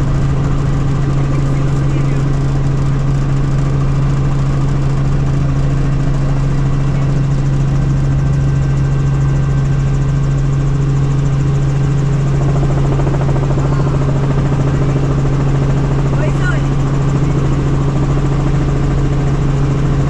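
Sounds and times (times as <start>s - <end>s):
helicopter engine and rotor drone: 0.0s - 20.0s.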